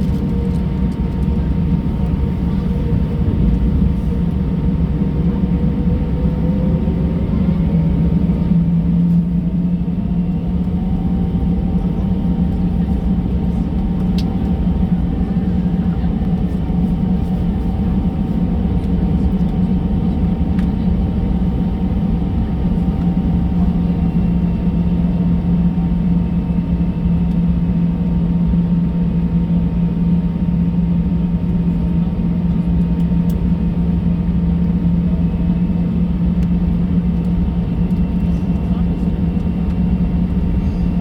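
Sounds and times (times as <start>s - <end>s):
aircraft engine and rolling rumble: 0.0s - 41.0s
constant low hum: 0.0s - 41.0s.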